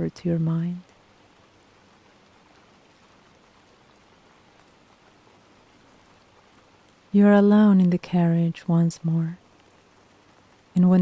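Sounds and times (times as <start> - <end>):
light rain falling: 0.0 - 11.0.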